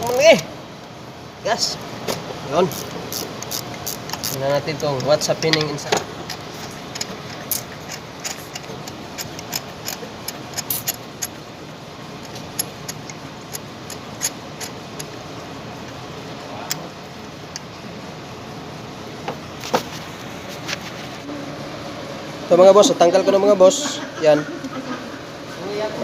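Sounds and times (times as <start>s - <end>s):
steady low background noise: 0.0s - 26.0s.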